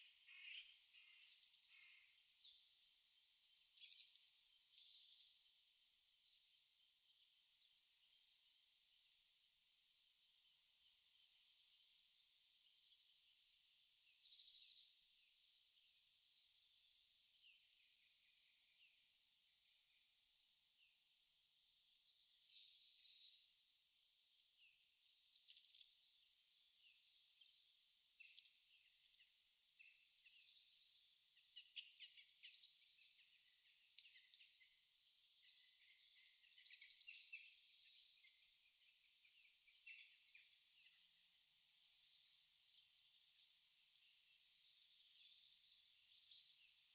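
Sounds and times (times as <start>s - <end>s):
faint chatter of bird calls: 0.0s - 46.9s.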